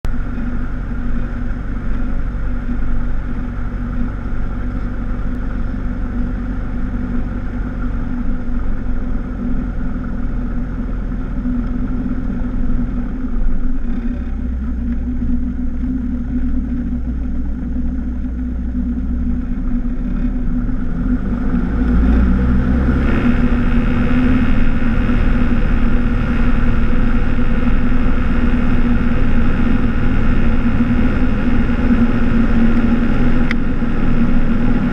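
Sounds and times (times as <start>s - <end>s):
small plane engine and propeller: 0.0s - 34.9s.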